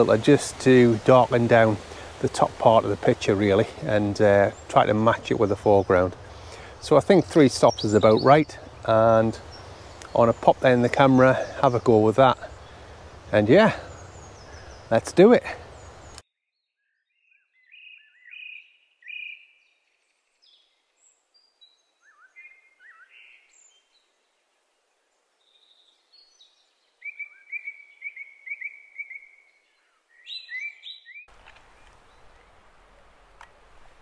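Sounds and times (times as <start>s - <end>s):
outdoor background hiss: 0.0s - 16.2s, 18.3s - 34.0s
small birds chirping: 0.0s - 34.0s.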